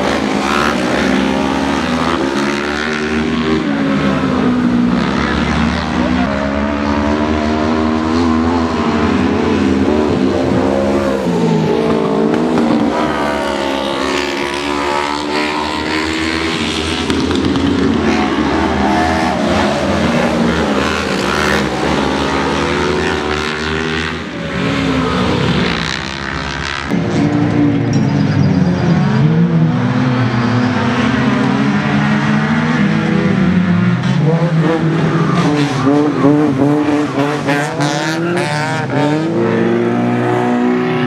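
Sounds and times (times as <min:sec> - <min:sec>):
race car engines revving: 0:00.0 - 0:41.0.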